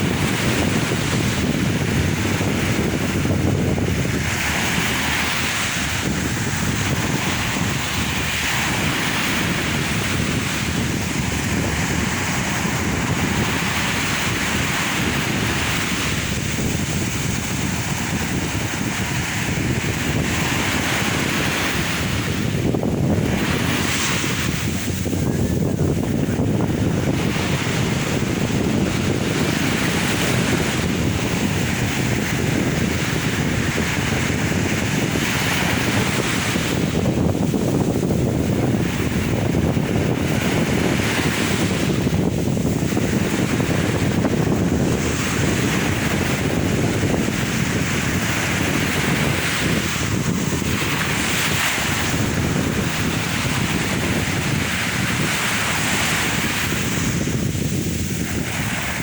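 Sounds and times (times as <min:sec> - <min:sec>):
sea waves breaking: 0:00.0 - 0:59.0
wind buffeting microphone: 0:00.0 - 0:59.0.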